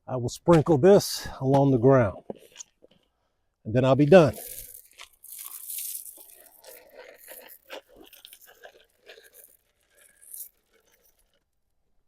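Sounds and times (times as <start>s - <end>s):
seeds scattered on ground: 0.4s - 3.1s, 3.7s - 11.7s.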